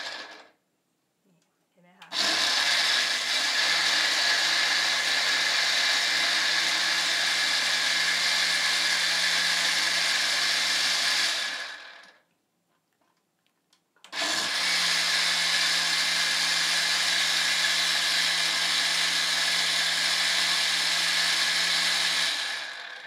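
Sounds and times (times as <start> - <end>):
blender motor whirring: 0.0 - 0.5, 2.1 - 12.2, 14.1 - 23.0.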